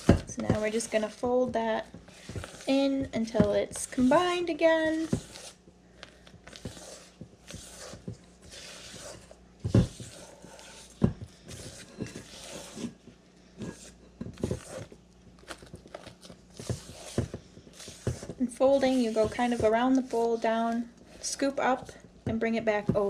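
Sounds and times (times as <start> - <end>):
spatula scraping a metal bowl: 0.0 - 5.6, 6.5 - 13.0, 13.6 - 14.9, 16.6 - 22.0.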